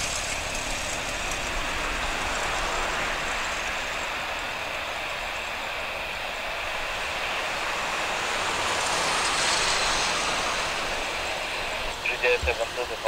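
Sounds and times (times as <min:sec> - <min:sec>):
jet engines with high whine: 0:00.0 - 0:13.0.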